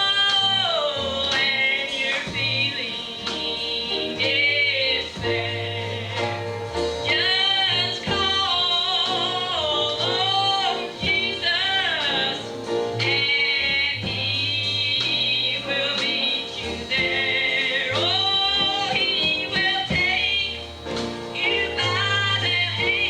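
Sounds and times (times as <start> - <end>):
gospel singing with band backing: 0.0 - 23.0.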